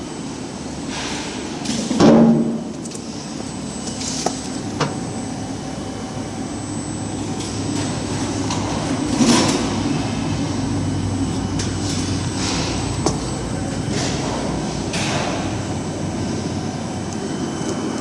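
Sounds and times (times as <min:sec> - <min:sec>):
workshop machinery running: 0:00.0 - 0:18.0.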